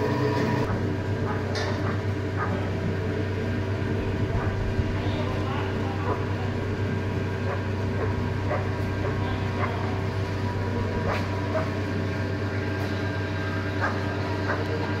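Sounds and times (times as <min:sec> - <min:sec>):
press machine humming: 0:00.0 - 0:15.0.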